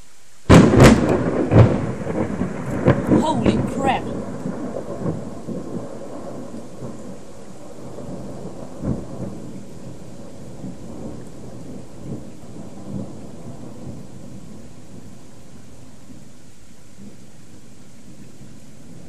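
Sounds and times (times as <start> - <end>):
steady rain falling: 0.0 - 19.0
thunder rumble: 0.4 - 19.0.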